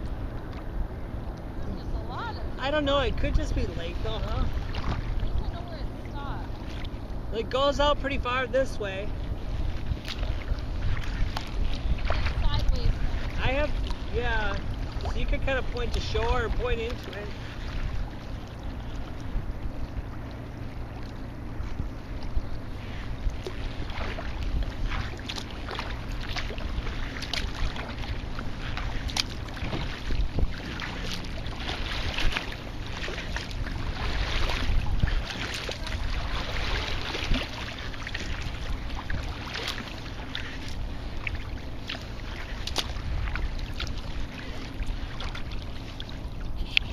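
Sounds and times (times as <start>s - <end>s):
water splashing against kayak: 0.0s - 46.9s
wind rumble on microphone: 0.0s - 46.9s.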